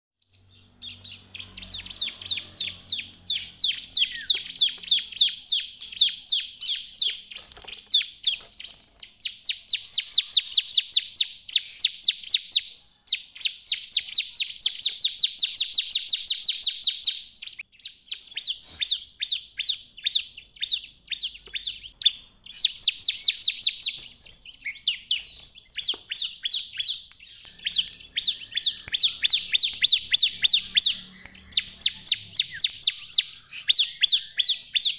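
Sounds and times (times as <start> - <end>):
bird rapid sharp chirps: 0.2 - 34.9.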